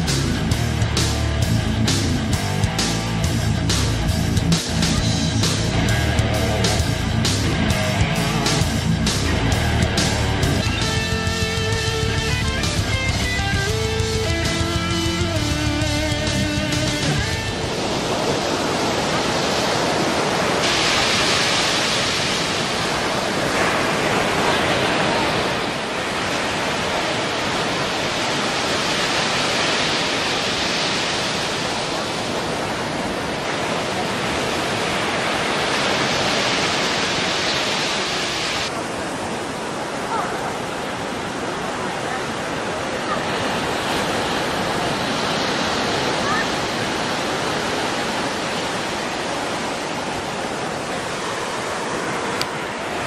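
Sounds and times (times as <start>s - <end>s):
surf breaking on beach: 0.0s - 53.0s.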